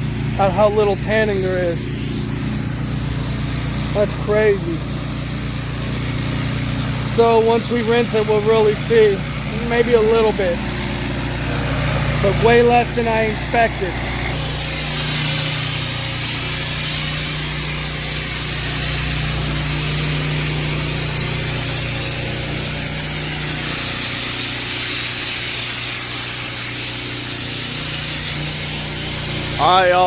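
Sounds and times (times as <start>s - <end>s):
pressure washer spraying water: 0.0s - 30.0s
washer engine running: 0.0s - 30.0s.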